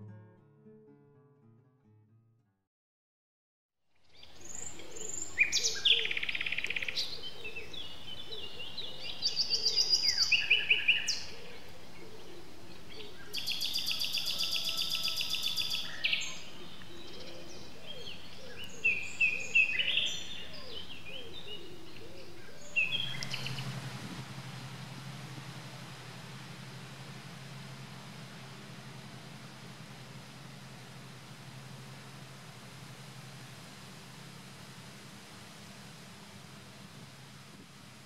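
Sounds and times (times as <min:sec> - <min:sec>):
low steady hum: 0:04.0 - 0:38.0
songbirds singing: 0:04.0 - 0:38.0.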